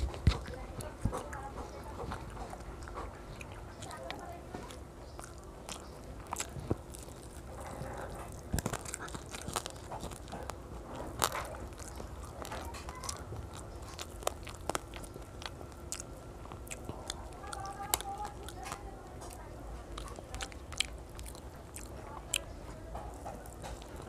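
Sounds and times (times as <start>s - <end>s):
child chewing food: 0.0s - 24.0s.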